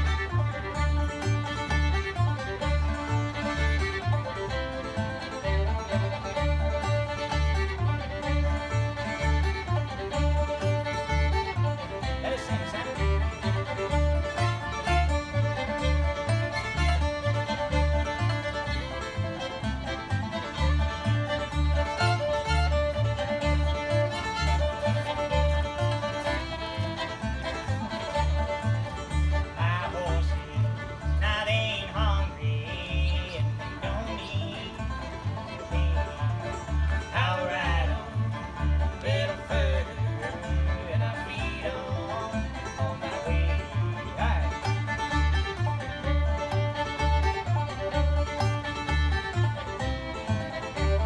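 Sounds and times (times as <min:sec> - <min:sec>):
banjo picking: 0:00.0 - 0:51.0
fiddle melody: 0:00.0 - 0:51.0
upright bass notes: 0:00.0 - 0:51.0.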